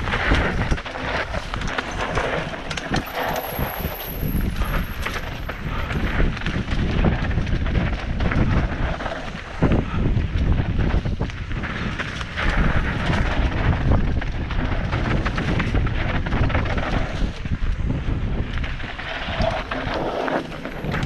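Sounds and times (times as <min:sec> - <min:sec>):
bike rattling and knocking: 0:00.0 - 0:21.0
tyres rumbling over dirt: 0:00.0 - 0:21.0
wind on microphone: 0:00.0 - 0:21.0.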